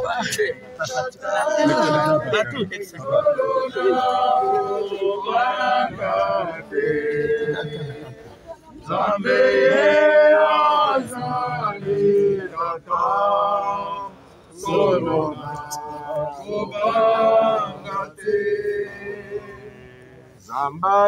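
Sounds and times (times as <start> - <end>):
voices chanting in long notes: 0.0 - 21.0.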